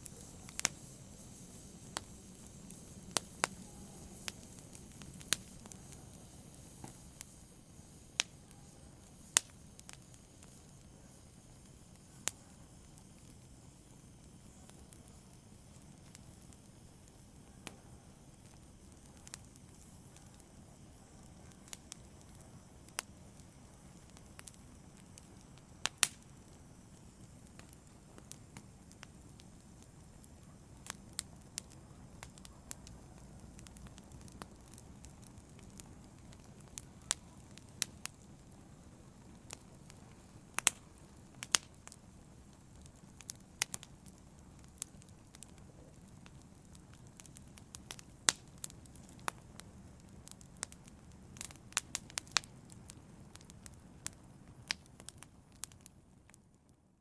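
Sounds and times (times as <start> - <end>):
fire hissing: 0.0 - 56.3
wood fire crackling and popping: 0.0 - 57.0.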